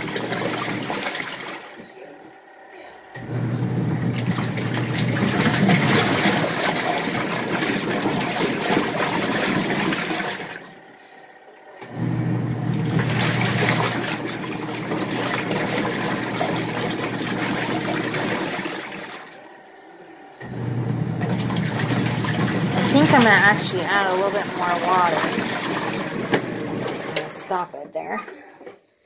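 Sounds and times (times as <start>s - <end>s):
water and clothes sloshing: 0.0s - 1.9s, 3.2s - 10.8s, 12.0s - 19.4s, 21.1s - 28.8s
washing machine motor hum: 0.0s - 29.0s.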